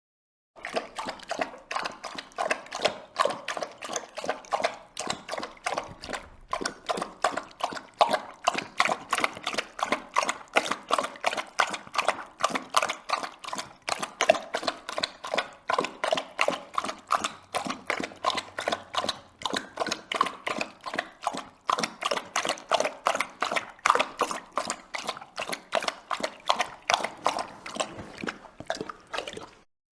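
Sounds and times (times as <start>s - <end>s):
dog lapping water: 0.6s - 29.7s.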